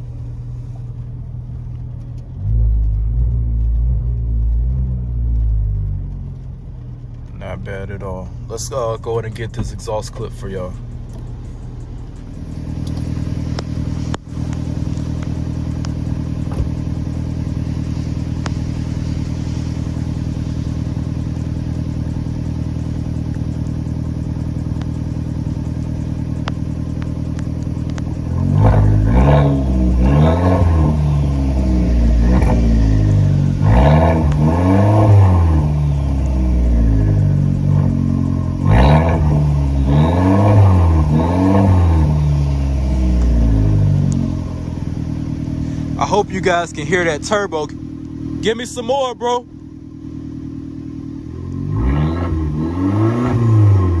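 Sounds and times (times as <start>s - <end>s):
car engine idling: 0.0s - 54.0s
engine revving in blips: 1.4s - 49.4s, 50.1s - 54.0s.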